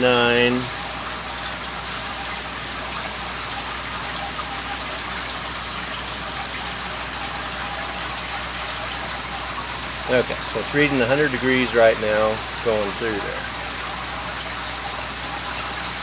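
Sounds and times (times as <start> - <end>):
water pouring into a tank: 0.0 - 16.0.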